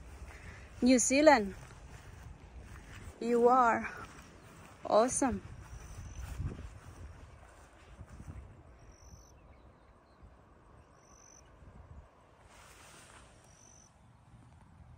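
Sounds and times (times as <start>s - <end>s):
wind rumbling on microphone: 0.0s - 14.9s.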